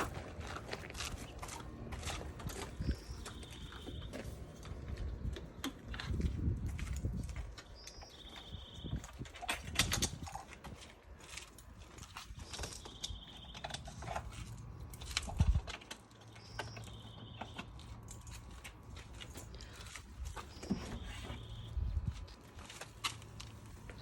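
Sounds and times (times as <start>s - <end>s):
mounts clicking and rattling: 0.0s - 24.0s.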